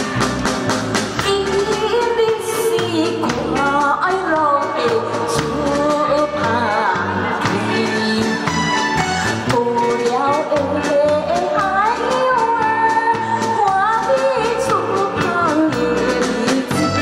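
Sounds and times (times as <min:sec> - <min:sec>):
woman singing into a microphone: 0:01.2 - 0:08.8, 0:09.4 - 0:17.0.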